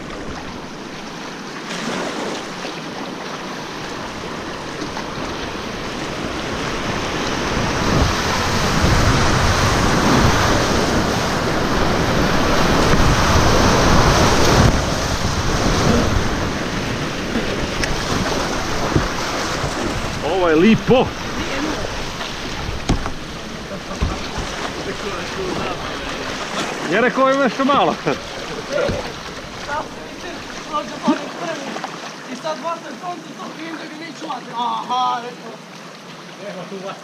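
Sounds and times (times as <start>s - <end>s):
rushing whitewater: 0.0s - 37.0s.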